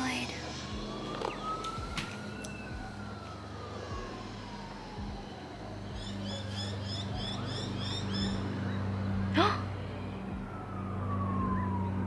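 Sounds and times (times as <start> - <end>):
distant siren wailing: 0.0 - 12.0
low steady hum: 0.0 - 12.0.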